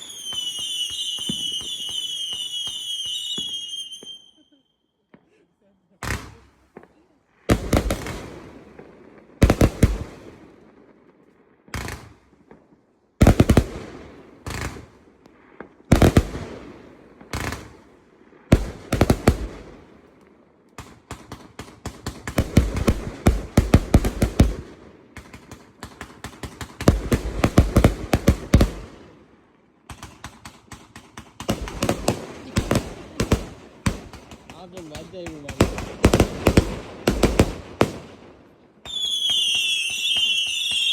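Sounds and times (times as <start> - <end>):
fireworks shots and bursts: 0.0 - 4.4, 5.2 - 40.9.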